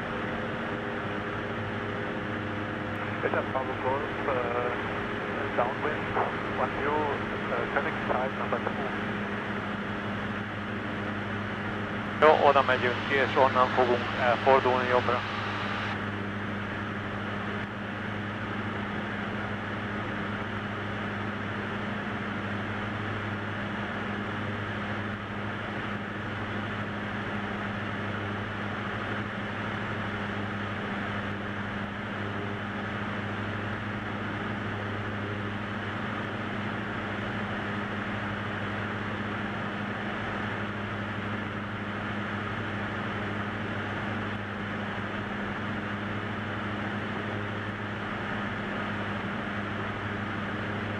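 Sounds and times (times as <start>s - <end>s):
light aircraft engine drone: 0.0s - 50.9s.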